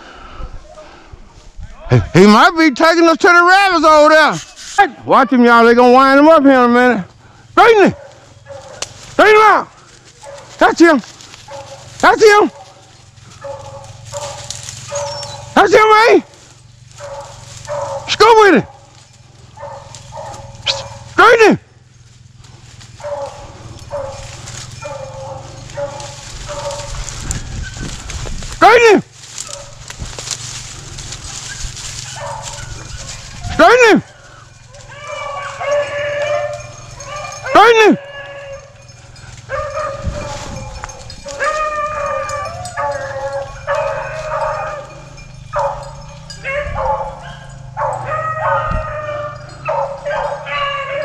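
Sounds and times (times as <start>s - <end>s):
hounds baying: 2.1s - 51.0s.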